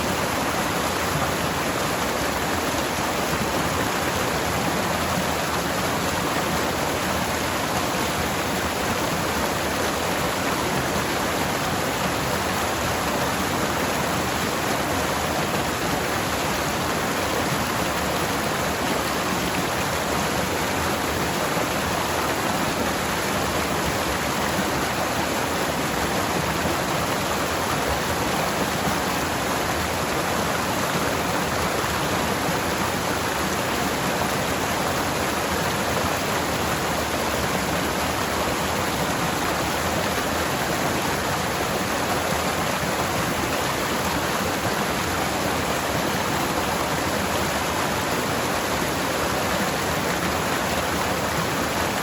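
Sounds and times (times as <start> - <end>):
stream water flowing: 0.0 - 52.0.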